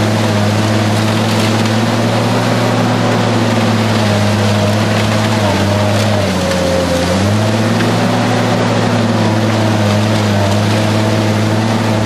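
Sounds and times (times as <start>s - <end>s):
diesel engine droning: 0.0s - 12.0s
metal crunching and cracking: 0.0s - 12.0s.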